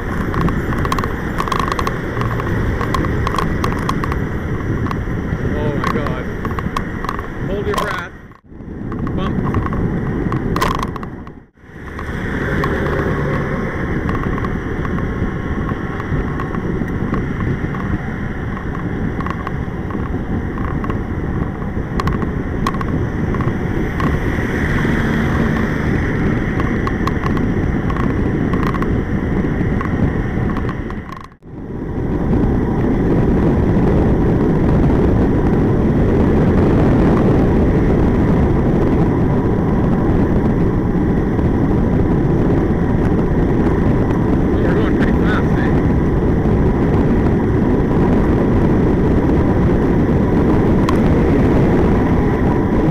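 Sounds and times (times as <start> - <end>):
bicycle tyres rolling on asphalt: 0.0 - 52.9
wind rush on microphone: 0.0 - 52.9.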